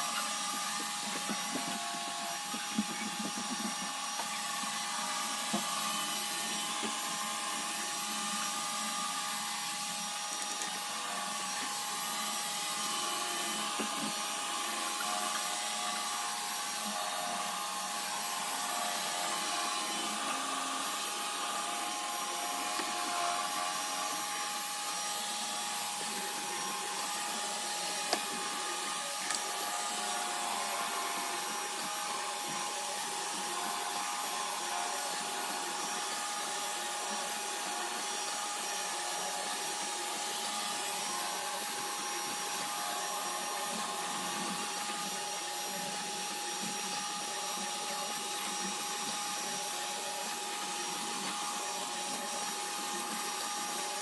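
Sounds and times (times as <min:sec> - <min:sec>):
robot vacuum motor whine: 0:00.0 - 0:54.0.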